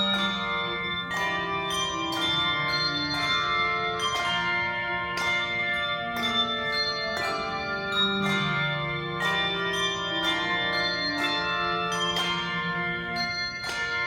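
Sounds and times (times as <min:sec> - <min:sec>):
handbell choir playing: 0:00.0 - 0:14.0.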